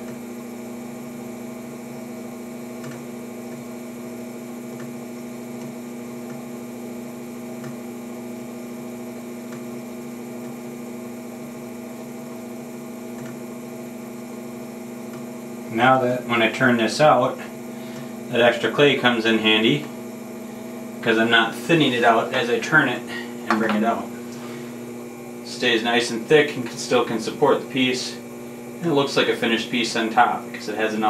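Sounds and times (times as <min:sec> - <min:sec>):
potter's wheel motor humming: 0:00.0 - 0:31.0.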